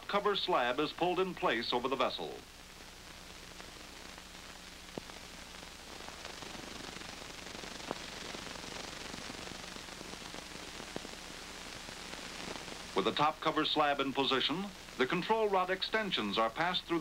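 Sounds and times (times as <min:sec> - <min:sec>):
film soundtrack hiss: 0:00.0 - 0:17.0.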